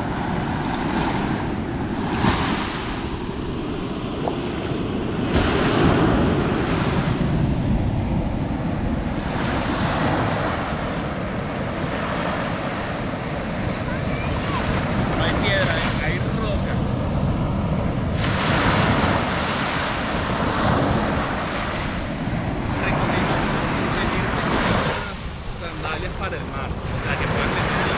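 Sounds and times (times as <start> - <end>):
surf breaking on beach: 0.0 - 27.9
wind buffeting microphone: 0.0 - 27.9.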